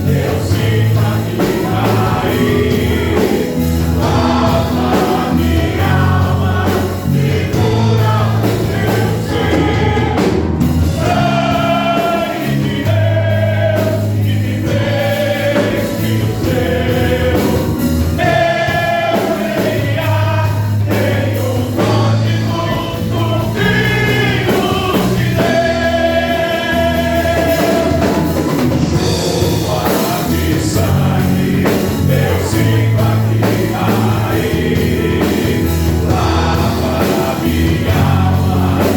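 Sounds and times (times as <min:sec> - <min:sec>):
group of voices singing gospel: 0:00.0 - 0:38.9
instrumental band backing: 0:00.0 - 0:38.9
steady bass: 0:00.0 - 0:38.9.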